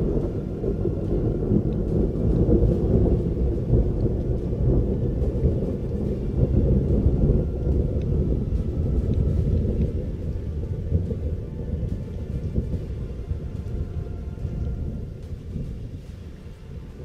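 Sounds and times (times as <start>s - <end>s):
thunder rumbling low: 0.0s - 17.0s.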